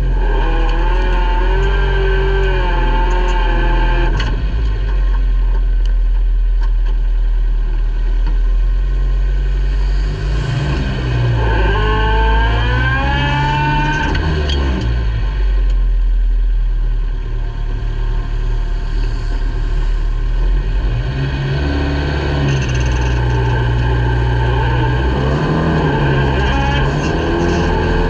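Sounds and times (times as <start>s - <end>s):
race car engine running hard: 0.0s - 28.0s.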